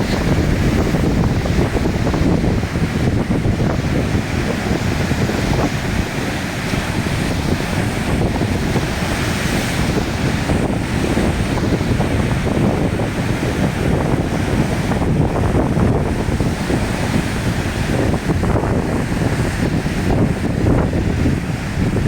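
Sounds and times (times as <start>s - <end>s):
heavy surf rushing: 0.0s - 22.0s
wind buffeting microphone: 0.0s - 22.0s.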